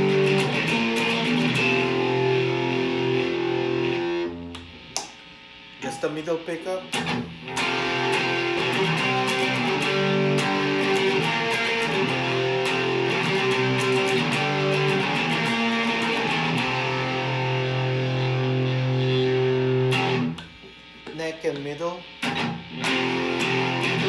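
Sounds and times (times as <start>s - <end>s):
distorted electric guitar: 0.0s - 24.0s.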